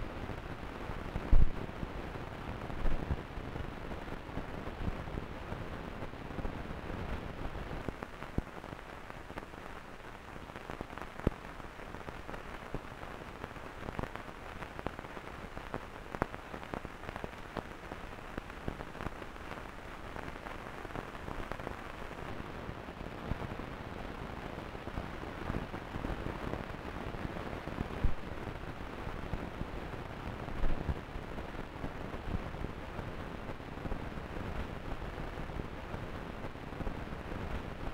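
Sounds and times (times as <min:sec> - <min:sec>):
dense crackle with pops: 0:00.0 - 0:37.9.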